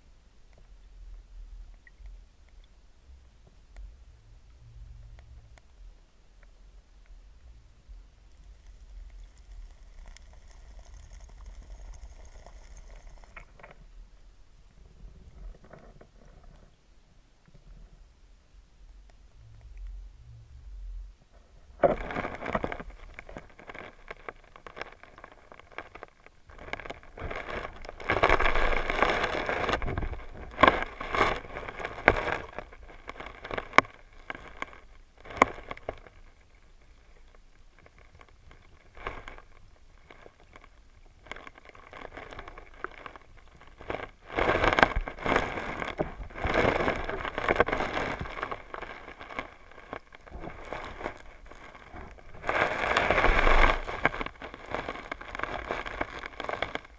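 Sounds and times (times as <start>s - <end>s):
underwater creek crackling: 0.4s - 56.9s.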